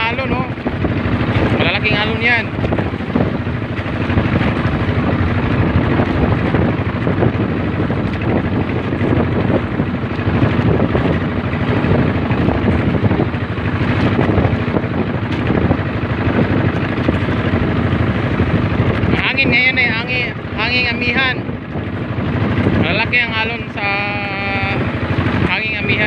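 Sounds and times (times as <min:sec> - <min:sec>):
boat engine running: 0:00.0 - 0:26.0
water rushing along hull: 0:00.0 - 0:26.0.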